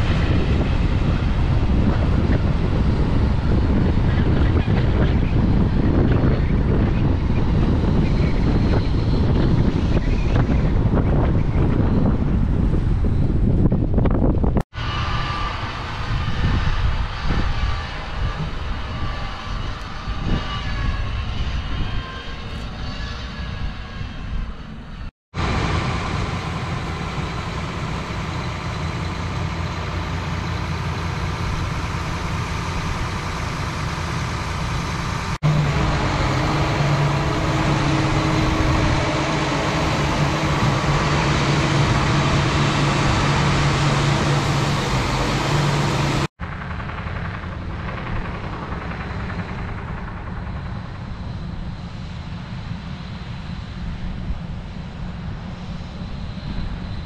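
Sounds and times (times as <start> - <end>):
heavy diesel tractor engines: 0.0 - 57.0.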